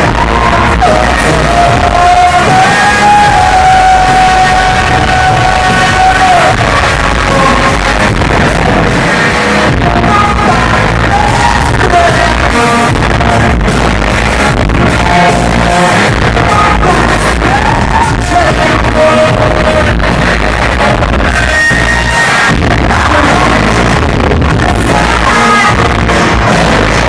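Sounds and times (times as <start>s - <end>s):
person singing: 0.0s - 27.0s
rock band playing: 0.0s - 27.0s.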